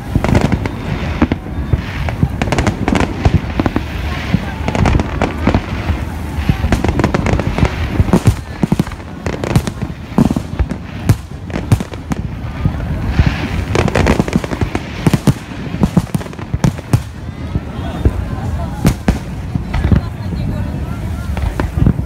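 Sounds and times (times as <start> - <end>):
firework crackles: 0.0 - 22.0
fireworks bursting: 0.0 - 22.0.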